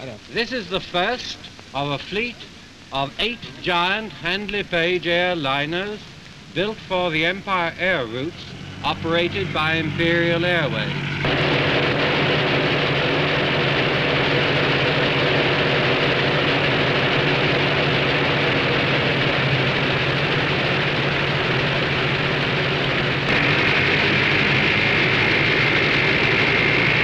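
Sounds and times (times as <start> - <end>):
film soundtrack hiss: 0.0 - 27.0
higher steady hum: 0.0 - 27.0
engine drone: 0.6 - 27.0.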